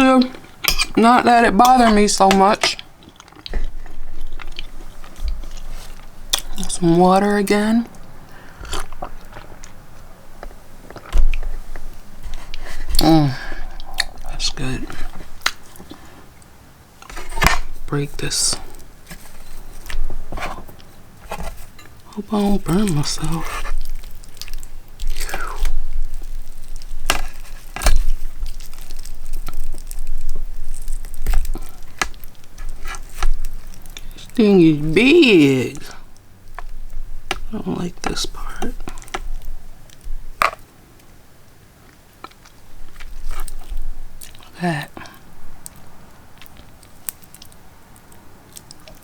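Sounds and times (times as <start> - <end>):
hands handling food: 0.0 - 41.1, 41.9 - 49.0.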